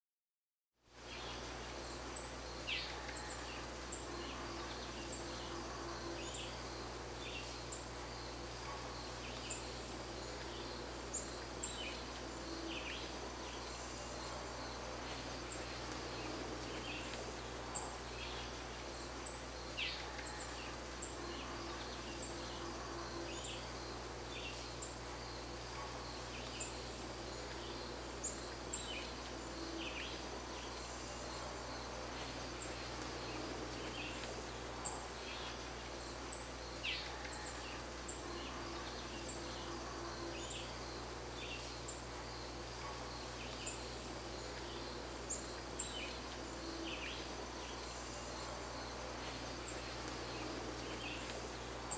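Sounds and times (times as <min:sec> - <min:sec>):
outdoor background hiss: 0:00.8 - 0:51.9.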